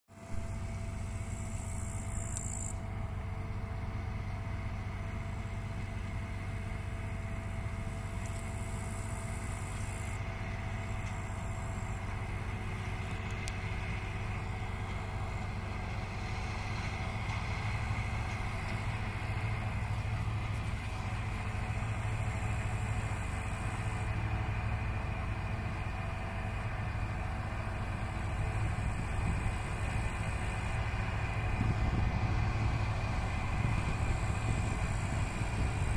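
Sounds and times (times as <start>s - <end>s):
forage harvester droning: 0.1s - 35.9s
tractor engine: 0.1s - 35.9s.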